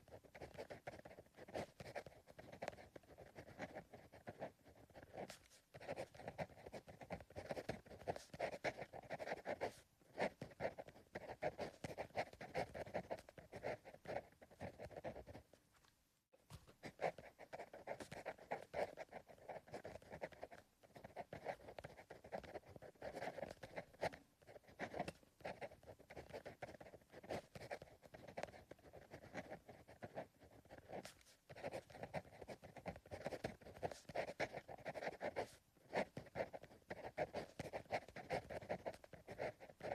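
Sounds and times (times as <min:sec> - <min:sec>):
pencil scratching on paper: 0:00.0 - 0:15.6, 0:16.5 - 0:39.9.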